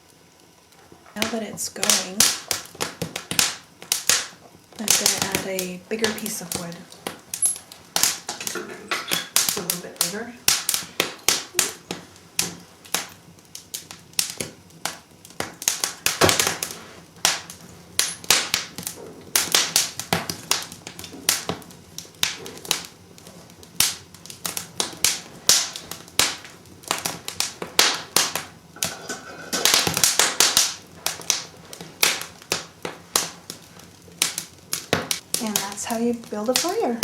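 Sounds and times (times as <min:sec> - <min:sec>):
fire crackling: 0:00.0 - 0:37.0
fire snaps and pops: 0:00.0 - 0:37.0.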